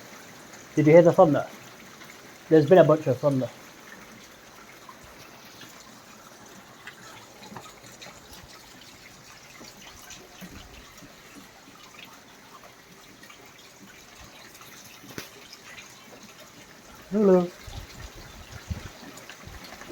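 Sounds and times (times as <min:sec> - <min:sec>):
drips and splashes: 0:00.0 - 0:19.9
rain falling: 0:00.0 - 0:19.9
water gushing from a pipe: 0:00.0 - 0:19.9.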